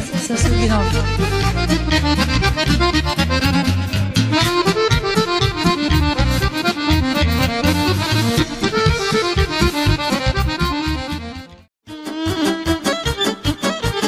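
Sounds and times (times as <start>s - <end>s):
accordion-led folk band: 0.0s - 14.0s.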